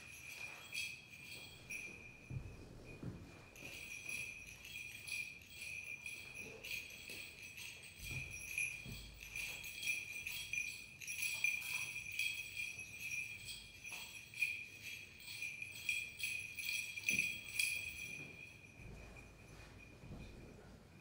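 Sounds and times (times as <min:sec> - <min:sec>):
censer bells jingling: 0:00.0 - 0:20.1.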